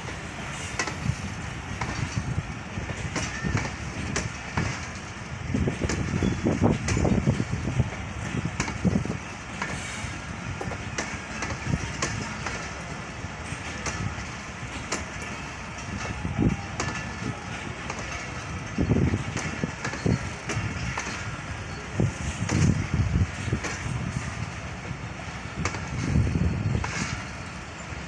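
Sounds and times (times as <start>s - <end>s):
train coaches rumbling: 0.0s - 28.0s
wheels clicking over rail joints: 0.0s - 28.0s.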